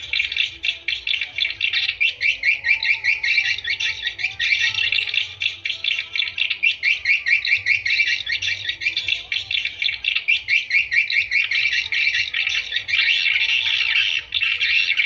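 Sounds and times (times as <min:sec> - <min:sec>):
swiftlets twittering: 0:00.0 - 0:15.0.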